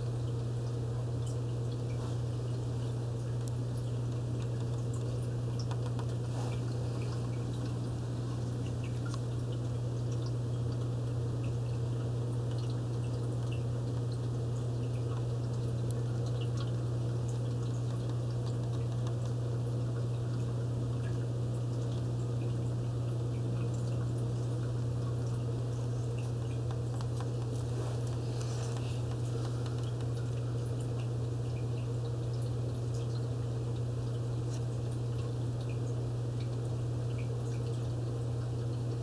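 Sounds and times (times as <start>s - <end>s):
aquarium filter humming: 0.0s - 39.0s
water trickling and dripping: 0.0s - 39.0s.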